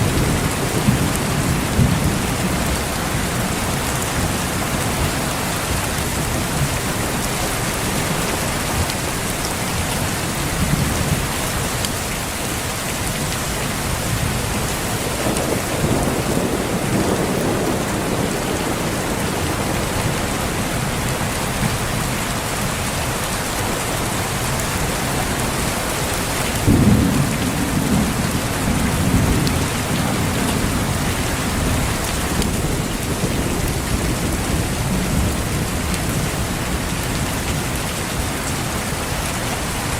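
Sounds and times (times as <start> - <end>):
thunder rumbling: 0.0 - 9.5, 13.5 - 22.1, 24.8 - 38.8
heavy rain hissing: 0.0 - 39.9.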